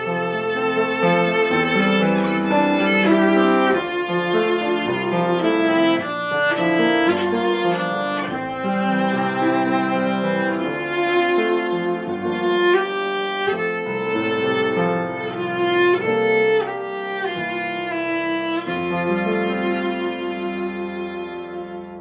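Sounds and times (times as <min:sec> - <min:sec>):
bowed viola long notes: 0:00.0 - 0:22.0
piano accompaniment: 0:00.0 - 0:22.0.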